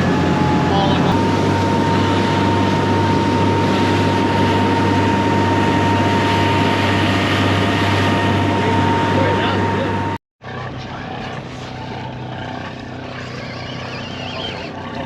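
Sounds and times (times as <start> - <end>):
boat engine droning: 0.0 - 15.0
thin steady whine: 0.0 - 15.0
wind and water noise: 0.0 - 15.0.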